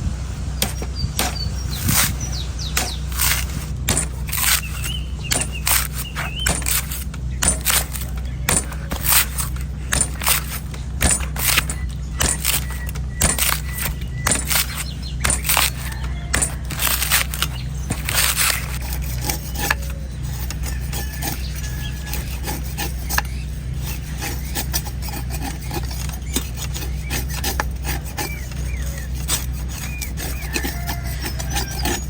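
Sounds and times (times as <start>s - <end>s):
steady low hum: 0.0s - 32.0s
knife chopping coconut husk: 0.6s - 32.0s.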